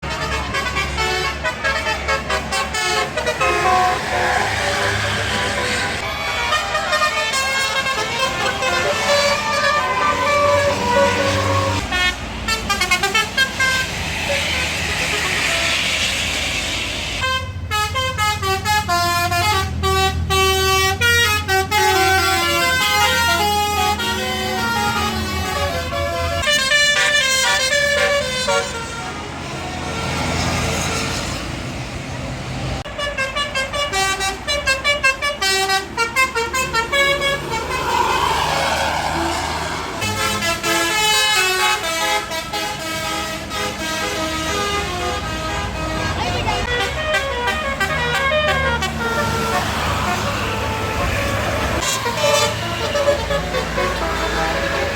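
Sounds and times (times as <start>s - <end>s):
musical air horn melody: 0.0s - 15.9s, 17.2s - 29.7s, 32.9s - 54.9s
bus engine running: 0.0s - 54.9s.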